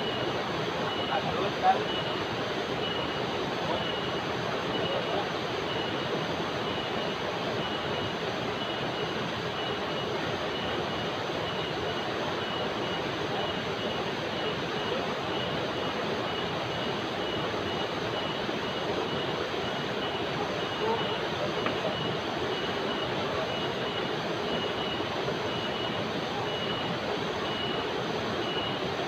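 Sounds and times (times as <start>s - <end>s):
cicada pulsing call: 0.0s - 29.0s.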